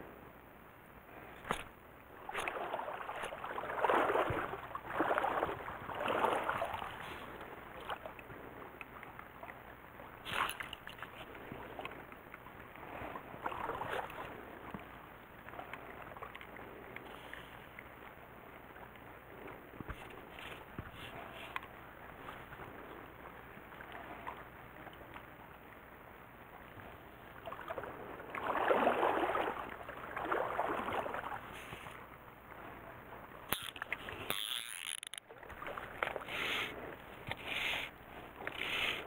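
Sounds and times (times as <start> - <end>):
water sloshing: 1.3 - 25.2, 26.8 - 39.0.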